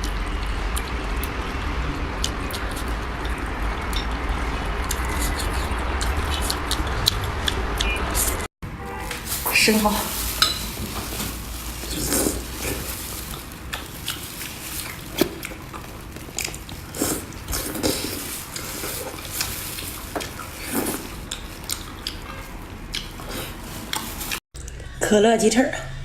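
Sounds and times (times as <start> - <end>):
person chewing wetly: 0.0 - 1.4, 2.2 - 8.0, 11.1 - 24.9.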